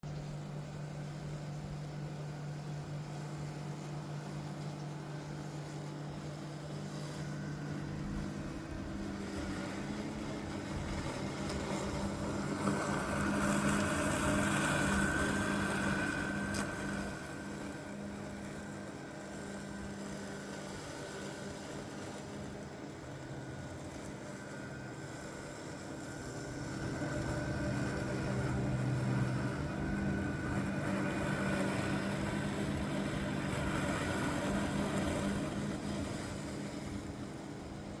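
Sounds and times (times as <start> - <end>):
robot lawn mower motors humming: 0.0 - 38.0.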